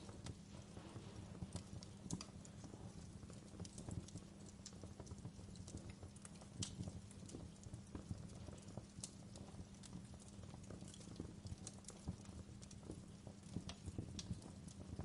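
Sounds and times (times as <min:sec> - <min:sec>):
low steady fire rumble: 0:00.0 - 0:15.0
wood fire crackling: 0:00.0 - 0:15.0.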